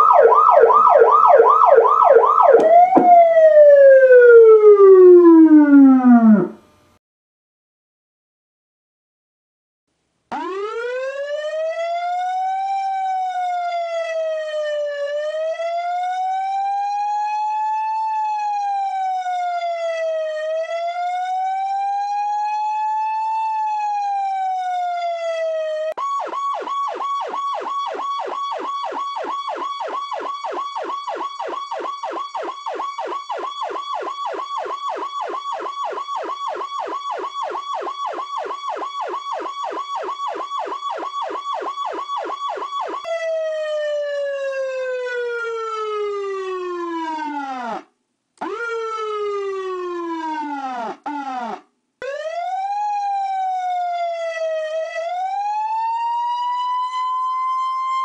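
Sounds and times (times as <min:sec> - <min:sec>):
police siren rapid yelp: 0:00.0 - 0:06.6, 0:10.3 - 0:58.0
police siren wailing: 0:00.0 - 0:06.6, 0:10.3 - 0:58.0.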